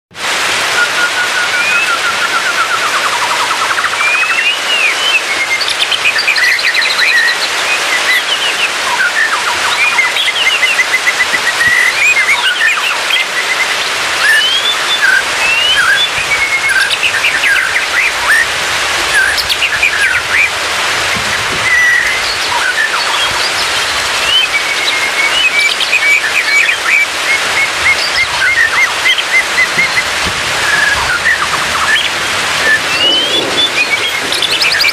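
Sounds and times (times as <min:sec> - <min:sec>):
steady rain-like hiss: 0:00.2 - 0:34.9
bird singing whistled phrases: 0:00.8 - 0:18.5, 0:19.1 - 0:20.5, 0:21.1 - 0:34.9.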